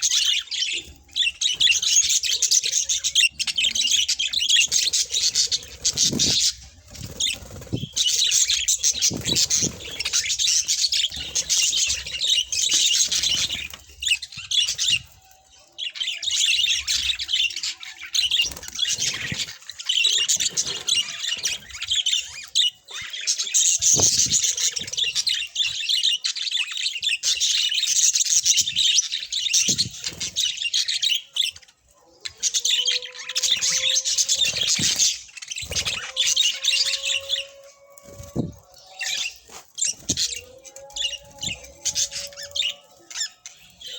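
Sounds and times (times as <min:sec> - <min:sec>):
budgerigars chattering and warbling: 0:00.0 - 0:15.1, 0:15.8 - 0:43.9.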